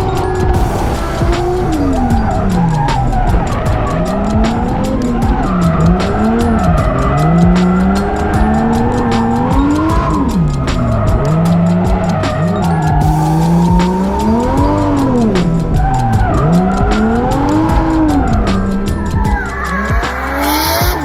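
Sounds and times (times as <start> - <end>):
car engine revving: 0.0 - 21.0
tyres squealing: 0.0 - 21.0.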